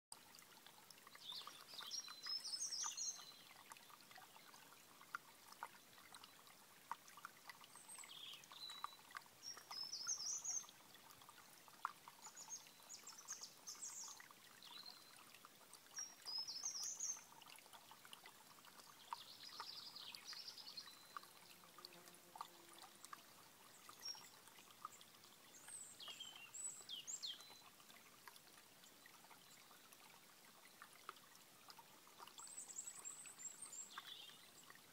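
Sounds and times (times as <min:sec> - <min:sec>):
stream trickling over stones: 0:00.1 - 0:34.9.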